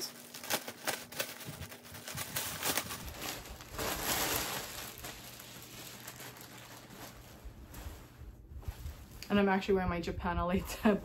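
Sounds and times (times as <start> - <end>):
plastic bag crinkling: 0.0 - 9.6
rustle of plastic and fabric: 0.0 - 11.0.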